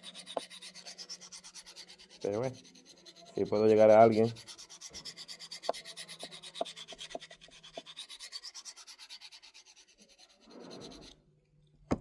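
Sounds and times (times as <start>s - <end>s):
knife rasping on a sharpener: 0.0s - 11.2s.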